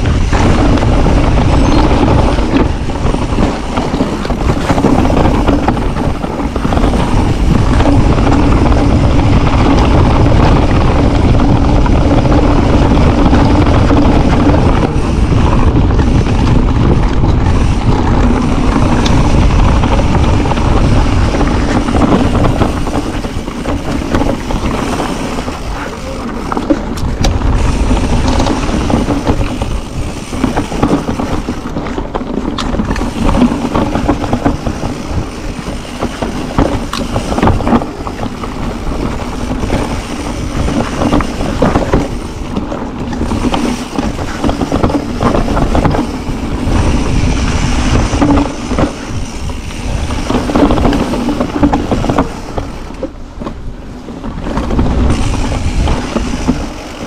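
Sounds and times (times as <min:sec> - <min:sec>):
bike frame and chain rattling: 0:00.0 - 0:57.0
tyres rumbling on dirt: 0:00.0 - 0:57.0.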